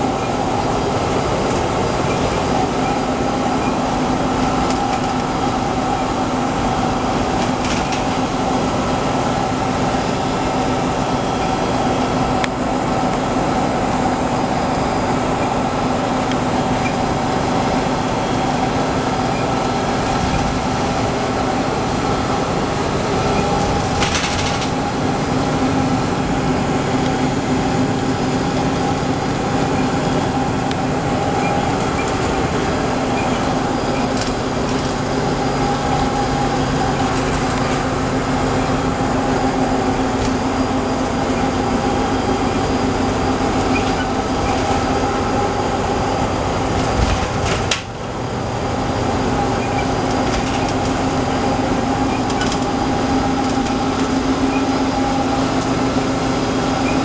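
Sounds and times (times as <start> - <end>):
bus engine and road drone: 0.0 - 57.0.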